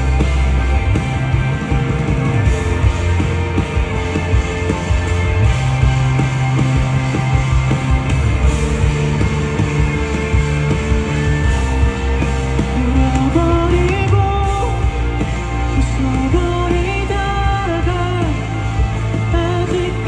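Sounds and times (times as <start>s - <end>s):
drums hitting steadily: 0.0s - 20.0s
live rock band instrumental: 0.0s - 20.0s.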